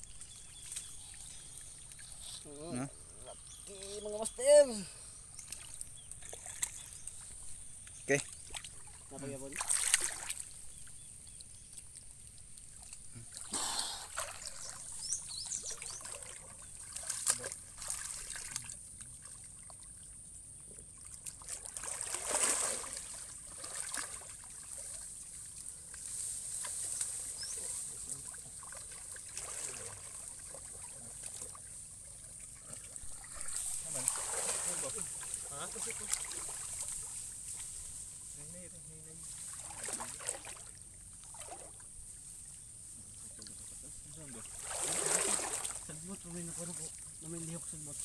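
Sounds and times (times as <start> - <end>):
muddy water splashing: 0.0 - 48.0.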